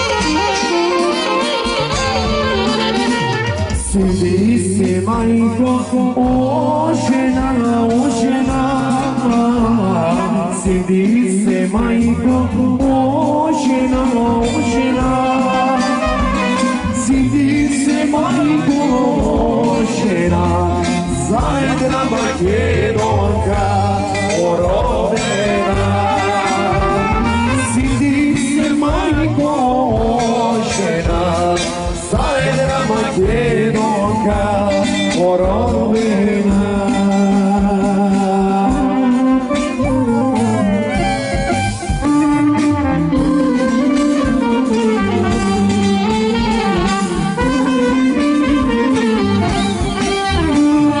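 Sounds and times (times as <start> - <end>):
folk band playing: 0.0 - 51.0
steady bass accompaniment: 0.0 - 51.0.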